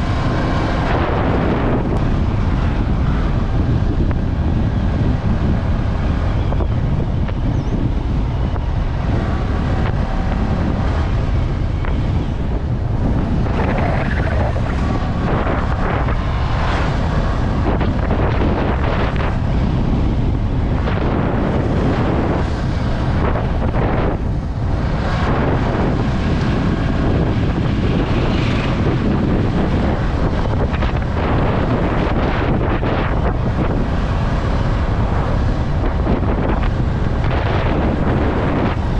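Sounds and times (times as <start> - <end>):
heavy wind on microphone: 0.0 - 38.9
motorcycle engine: 0.0 - 38.9.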